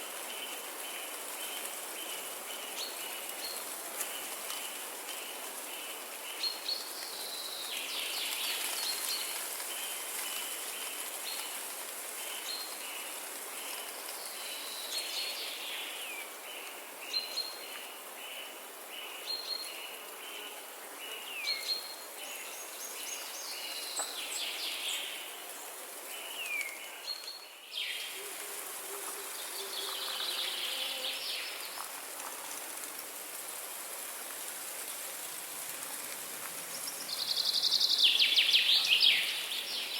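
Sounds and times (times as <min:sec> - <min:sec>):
high background hiss: 0:00.0 - 0:39.9.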